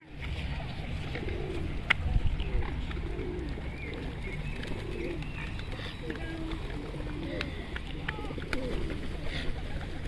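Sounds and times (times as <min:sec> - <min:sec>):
birds cooing: 0:00.0 - 0:10.0.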